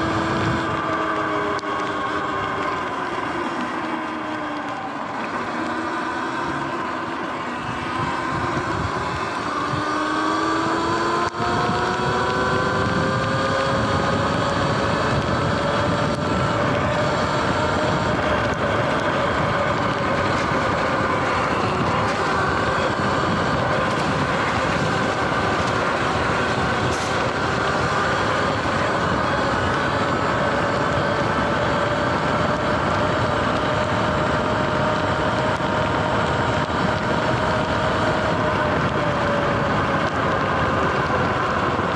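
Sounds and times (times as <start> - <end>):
electric motor whine: 0.0 - 41.9
wind and tyre noise: 0.0 - 41.9.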